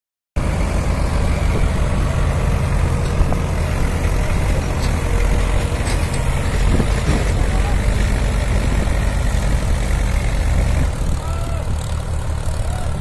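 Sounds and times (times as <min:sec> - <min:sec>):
diesel tractor engines running: 0:00.4 - 0:13.0.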